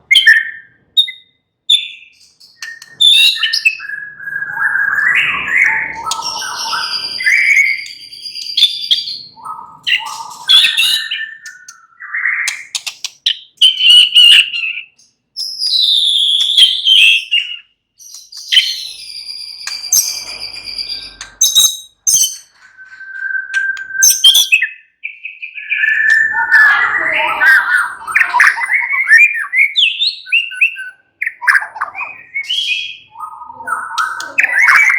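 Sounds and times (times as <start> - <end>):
shama singing whistles: 0.1 - 12.9, 13.6 - 34.9.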